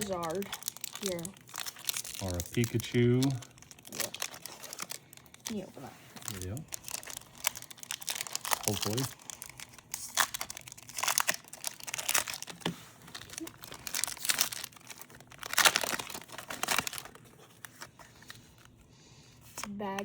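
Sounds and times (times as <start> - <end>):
pack tearing open: 0.0 - 5.6, 6.2 - 18.7
foil wrapper crinkling: 0.0 - 18.8.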